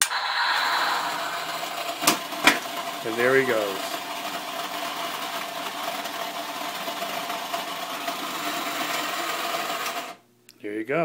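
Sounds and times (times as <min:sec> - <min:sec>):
toy electric motor humming: 0:00.1 - 0:10.2.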